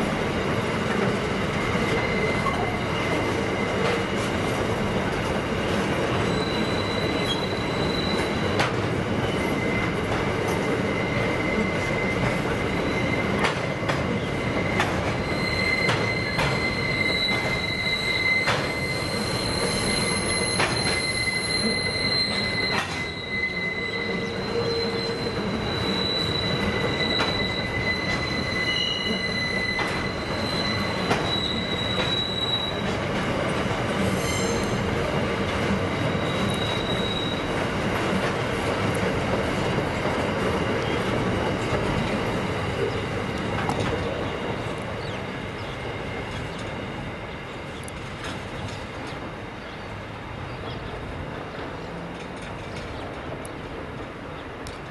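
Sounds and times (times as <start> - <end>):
wheels rumbling on rails: 0.0 - 54.9
train wheels squealing: 0.4 - 37.8, 38.9 - 53.2
clacks at rail joints: 0.5 - 10.8, 11.5 - 17.7, 18.3 - 23.1, 25.4 - 28.5, 29.1 - 46.8, 47.7 - 49.4, 50.6 - 54.9.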